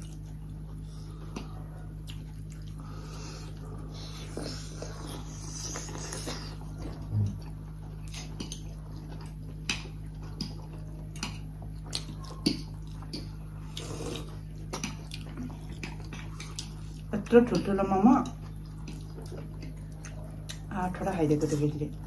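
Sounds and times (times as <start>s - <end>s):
wet chewing and lip smacks: 0.0s - 20.7s
steady low hum: 0.0s - 22.0s.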